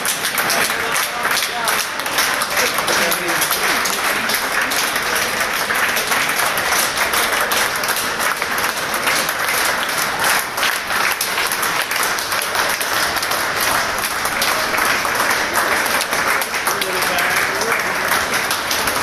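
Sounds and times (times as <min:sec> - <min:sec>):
crowd applause: 0:00.0 - 0:19.0.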